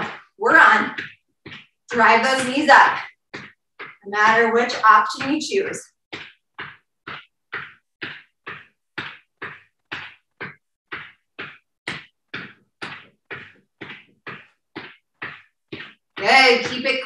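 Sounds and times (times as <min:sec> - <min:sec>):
sneakers stepping on exercise mat: 0:00.0 - 0:17.0.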